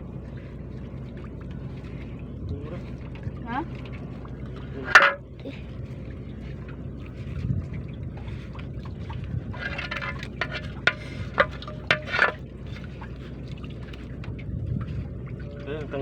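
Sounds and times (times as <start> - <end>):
low rumble: 0.0 - 16.0
water sloshing and splashing: 0.0 - 16.0.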